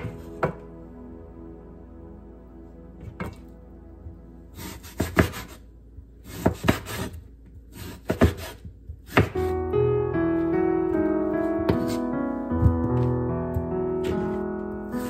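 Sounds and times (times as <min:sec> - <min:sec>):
piano music: 0:00.0 - 0:06.2, 0:09.2 - 0:15.0
soft background music: 0:00.0 - 0:07.4, 0:09.0 - 0:15.0.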